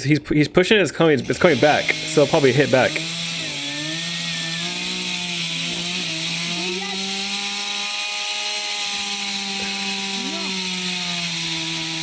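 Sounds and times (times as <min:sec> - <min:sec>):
chainsaw engine running: 0:01.2 - 0:12.0.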